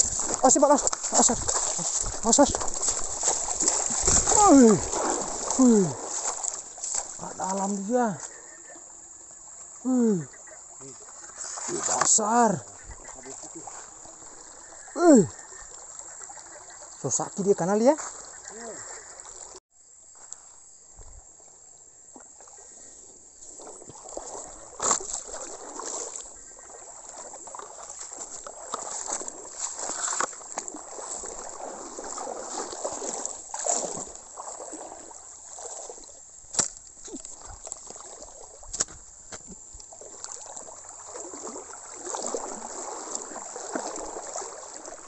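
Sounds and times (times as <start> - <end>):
river water sloshing and splashing: 0.0 - 19.6, 20.2 - 45.0.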